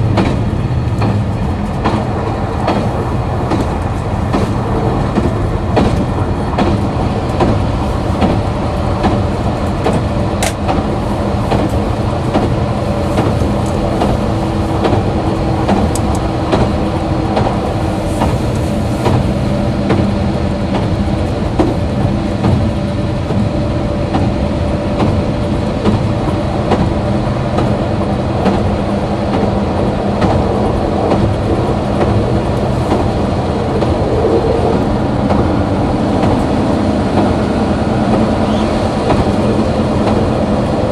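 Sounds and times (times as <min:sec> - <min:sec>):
diesel railcar engine droning: 0:00.0 - 0:40.9
wheels clicking over rails: 0:00.0 - 0:40.9.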